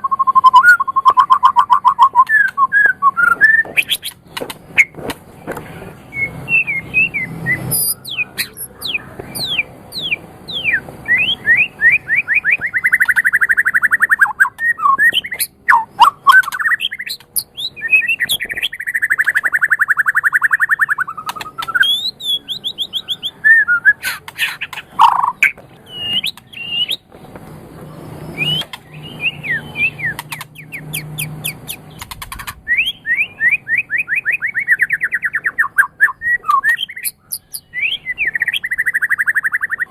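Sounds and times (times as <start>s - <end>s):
songbird singing with trills: 0.0s - 27.1s, 27.8s - 39.9s.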